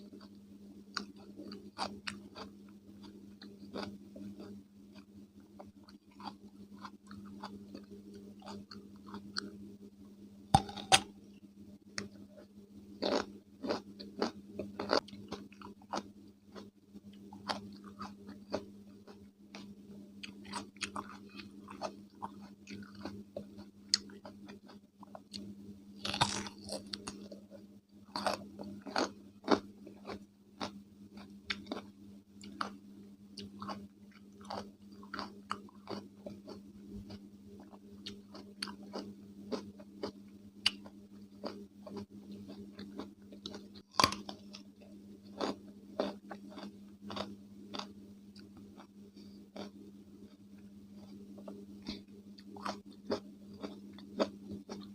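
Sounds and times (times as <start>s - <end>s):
chewing crunchy cucumber: 0.0s - 9.6s, 10.6s - 11.1s, 12.0s - 54.9s.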